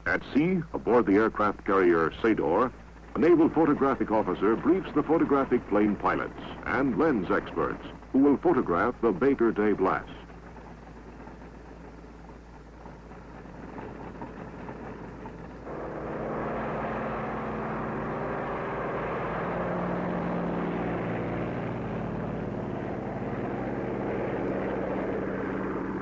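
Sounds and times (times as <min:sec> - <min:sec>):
propeller aircraft engines: 0:00.0 - 0:26.0.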